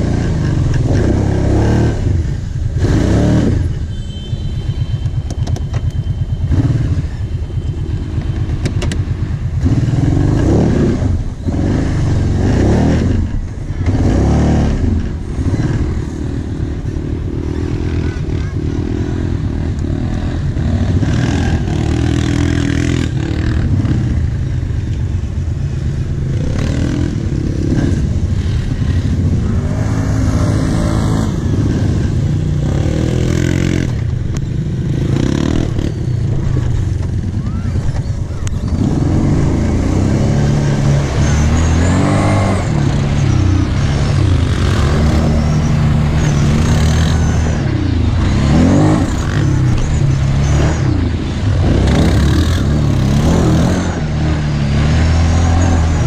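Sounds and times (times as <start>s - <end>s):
quad bike engine revving: 0.0s - 3.9s, 4.7s - 56.0s.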